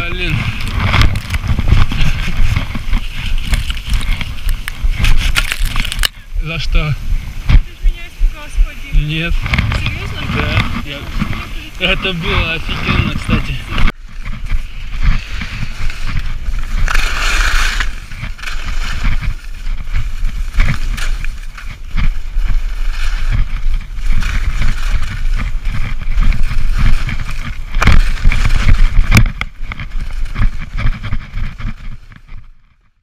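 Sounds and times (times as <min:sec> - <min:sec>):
skis scraping over snow: 0:00.0 - 0:32.6
wind rumble on microphone: 0:00.0 - 0:33.0.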